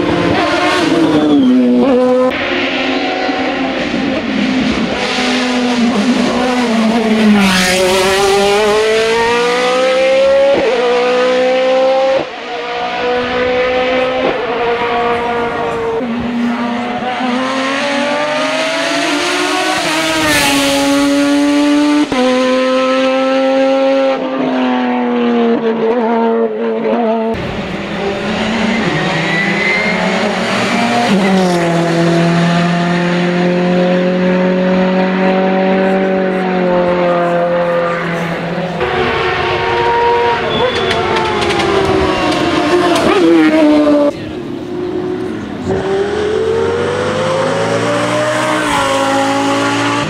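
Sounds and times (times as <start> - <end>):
racing car engines revving hard: 0.0 - 50.0.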